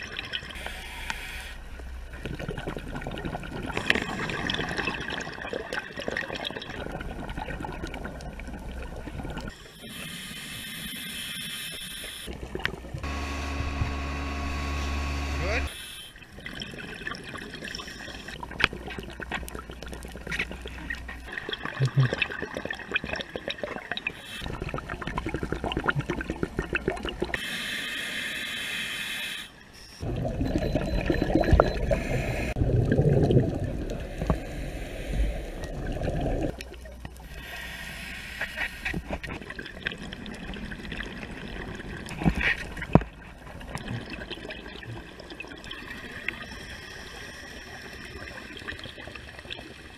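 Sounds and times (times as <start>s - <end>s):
underwater bubbling and gurgling: 0.0s - 13.9s, 15.7s - 49.9s.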